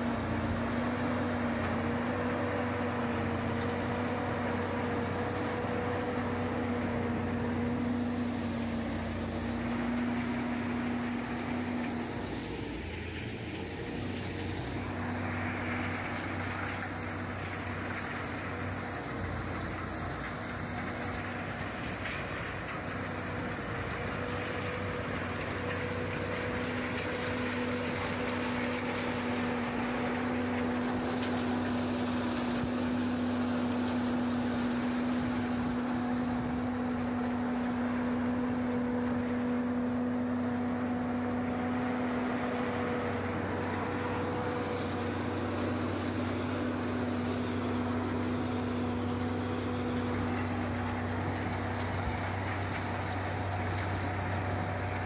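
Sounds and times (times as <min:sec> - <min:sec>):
compost turner engine humming: 0:00.0 - 0:55.0
constant low whine: 0:00.0 - 0:55.0.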